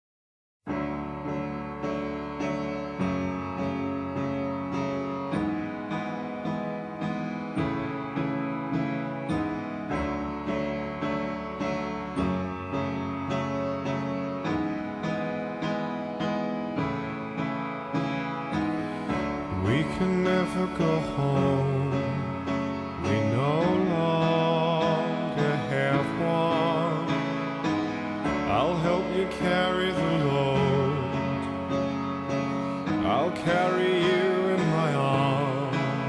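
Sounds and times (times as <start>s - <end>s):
piano playing steady notes: 0.7s - 36.0s.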